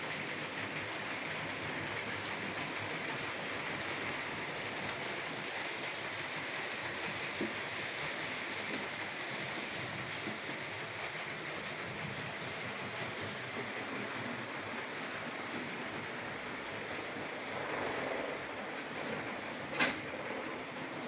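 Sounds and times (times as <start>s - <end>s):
model train rattling on track: 0.0s - 21.0s.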